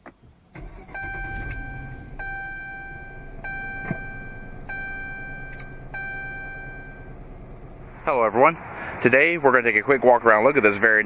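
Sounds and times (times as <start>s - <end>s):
low steady rumble: 0.1s - 11.0s.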